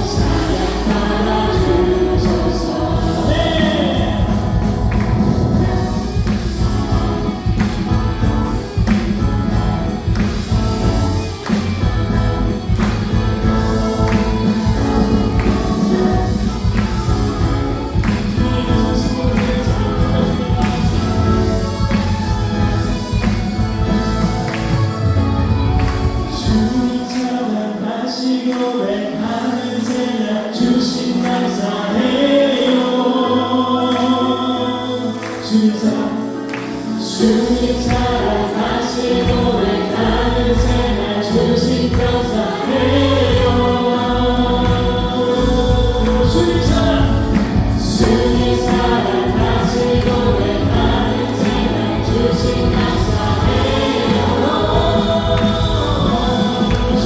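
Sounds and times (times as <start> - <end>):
bass: 0.0 - 26.8, 37.1 - 57.0
drums: 0.0 - 27.3, 36.4 - 57.0
electric guitar: 0.0 - 28.5, 29.2 - 57.0
keyboards: 0.0 - 57.0
singers: 0.0 - 57.0.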